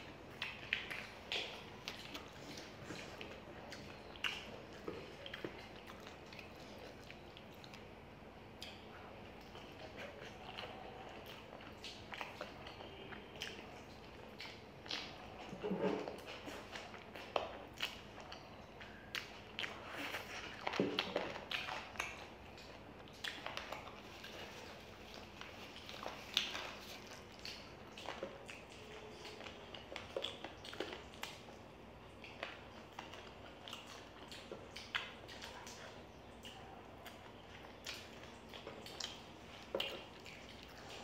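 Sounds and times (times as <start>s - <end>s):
people chewing food: 0.0s - 41.0s
wet smacks and clicks: 0.2s - 8.0s, 8.6s - 19.8s, 20.5s - 41.0s.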